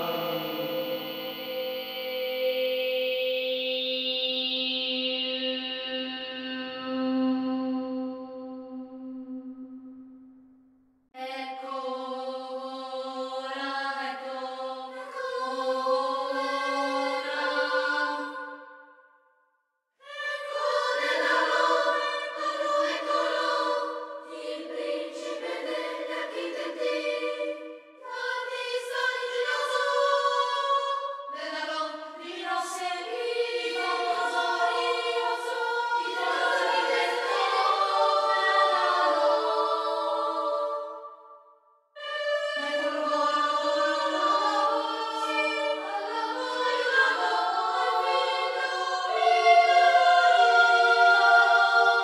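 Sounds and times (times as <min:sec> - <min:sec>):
children's choir singing: 0:00.0 - 0:08.4, 0:11.2 - 0:18.7, 0:20.0 - 0:41.3, 0:42.0 - 0:52.0.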